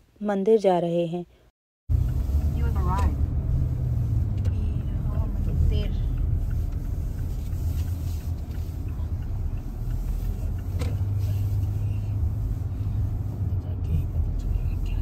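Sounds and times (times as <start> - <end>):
engine and road rumble: 1.9 - 15.0.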